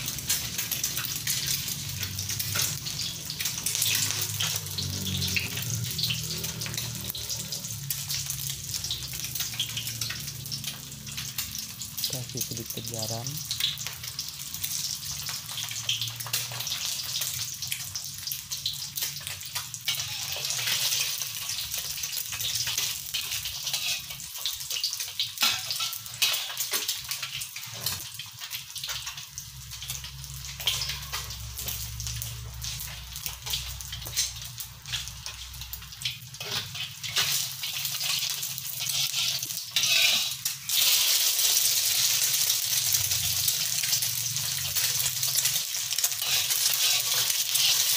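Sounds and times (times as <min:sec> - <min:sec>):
egg sizzling in hot oil: 0:00.0 - 0:47.9.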